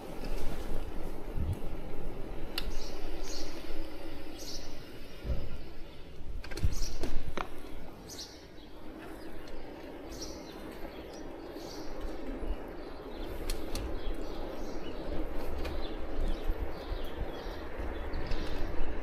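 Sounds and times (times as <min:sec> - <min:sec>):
small songbirds chirping: 0:01.5 - 0:19.0.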